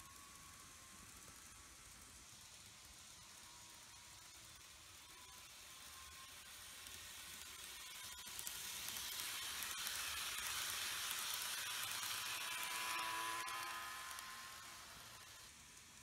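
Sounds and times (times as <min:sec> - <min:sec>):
model train wheels rattling on rail: 0:00.0 - 0:16.0
thin motor whine: 0:00.0 - 0:16.0.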